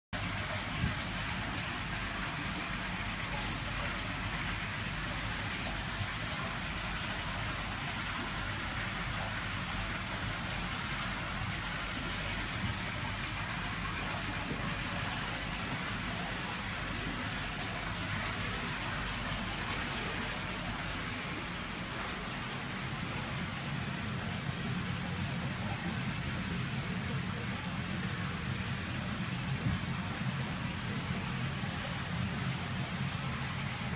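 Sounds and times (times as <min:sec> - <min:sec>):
rush of water in a tank: 0:00.1 - 0:33.9.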